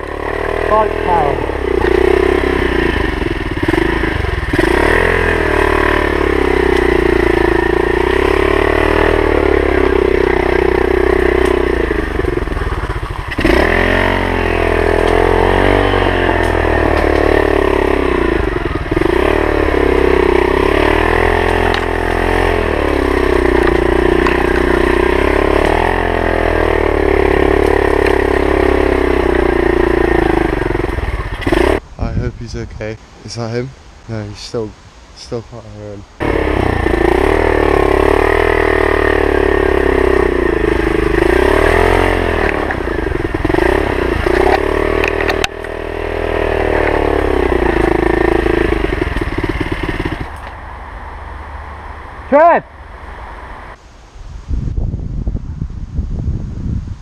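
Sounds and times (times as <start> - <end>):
motorbike engine revving: 0.0 - 32.2, 36.2 - 53.8.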